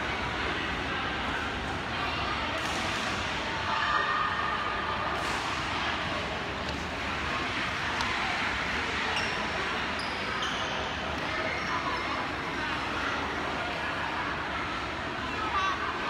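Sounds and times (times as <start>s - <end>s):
indoor sports hall din: 0.0s - 16.0s.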